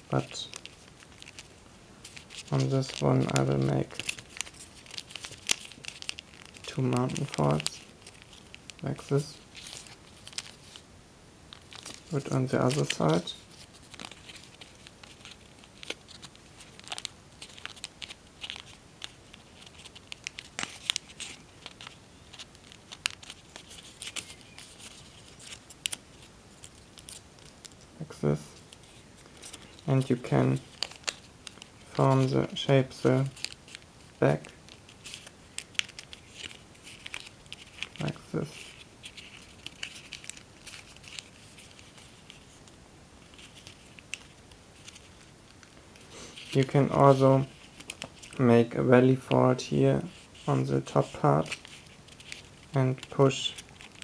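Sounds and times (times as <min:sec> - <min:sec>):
foil paper crinkling: 0:00.1 - 0:10.8, 0:11.5 - 0:48.4, 0:50.0 - 0:54.0.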